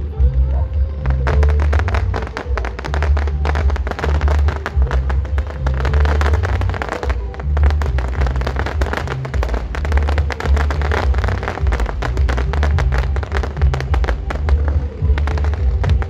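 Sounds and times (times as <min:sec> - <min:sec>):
fireworks crackling: 0:00.0 - 0:16.0
loud music with heavy bass: 0:00.0 - 0:16.0.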